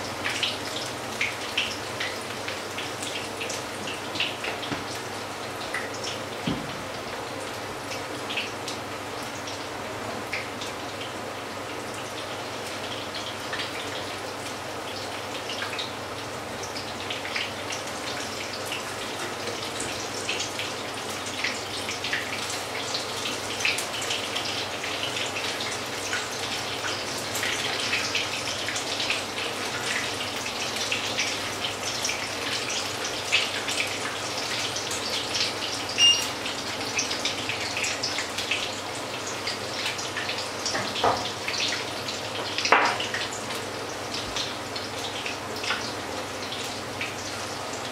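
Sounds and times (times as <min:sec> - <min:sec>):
fritters sizzling in oil: 0:00.0 - 0:47.9.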